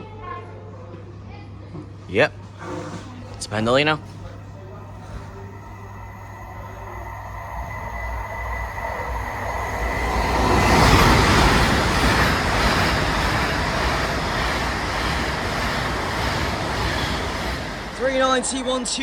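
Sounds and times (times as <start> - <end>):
electric train passing: 2.2 - 19.0.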